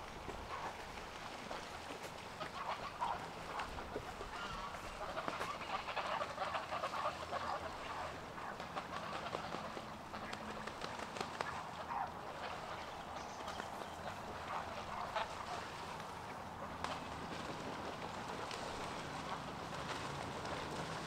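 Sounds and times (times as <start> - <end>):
ducks quacking: 0.4 - 21.0.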